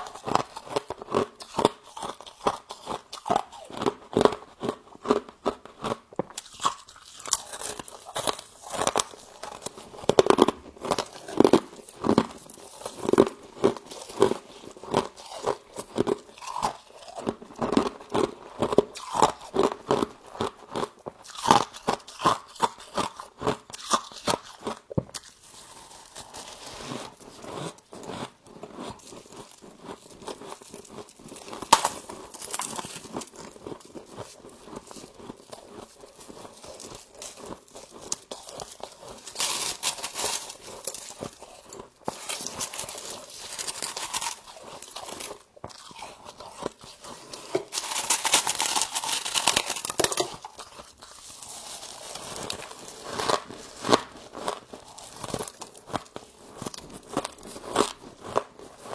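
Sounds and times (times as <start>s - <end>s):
crunching and chewing frost: 0.0s - 58.9s.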